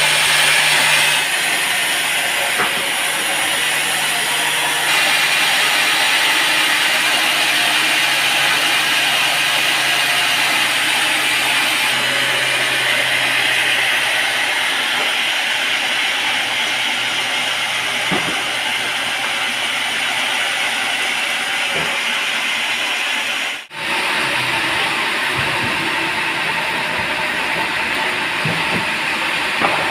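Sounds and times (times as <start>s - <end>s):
sawmill saw cutting wood: 0.0s - 29.9s.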